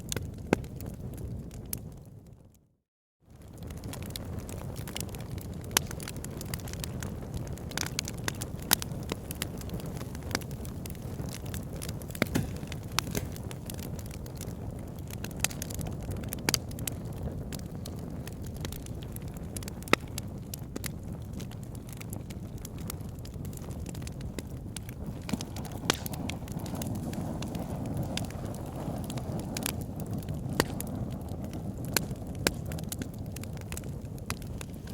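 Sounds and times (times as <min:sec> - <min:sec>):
fire crackling: 0:00.0 - 0:02.6, 0:03.3 - 0:34.9
low rumble of flames: 0:00.0 - 0:34.9.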